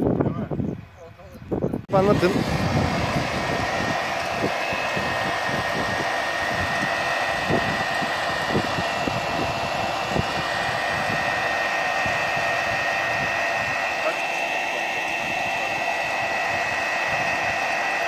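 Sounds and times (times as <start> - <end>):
electric pump whirring: 1.9 - 18.0.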